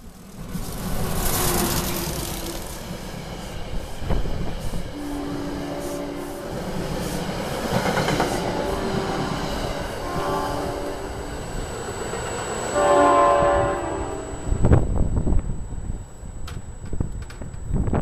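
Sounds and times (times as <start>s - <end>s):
train wheel-and-rail rumble: 0.0s - 18.0s.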